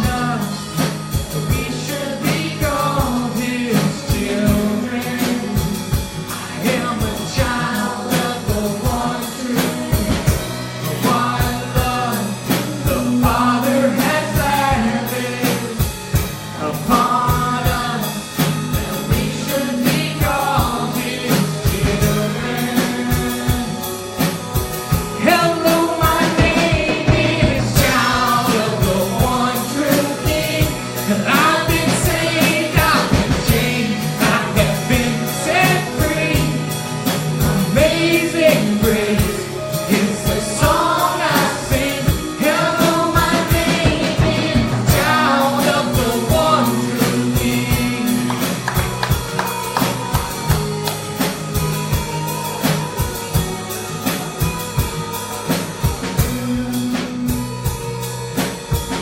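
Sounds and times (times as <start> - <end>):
person singing: 0.0 - 50.5
band with drum kit and bass: 0.0 - 59.0.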